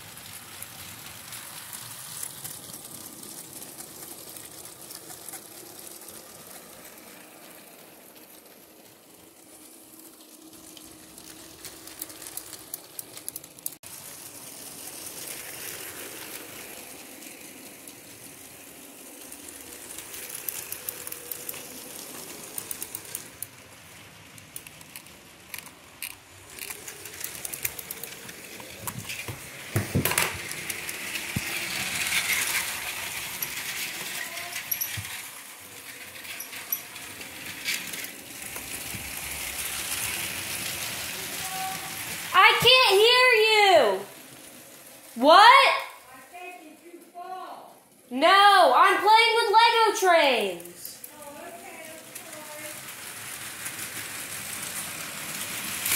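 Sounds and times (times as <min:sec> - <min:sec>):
toy train wheels clicking and rattling: 0:00.0 - 0:55.9.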